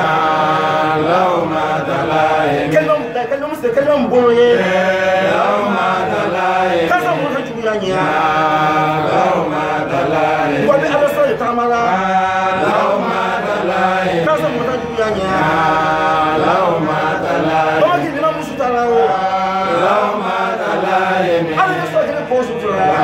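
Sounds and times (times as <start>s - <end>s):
man chanting: 0.0s - 23.0s.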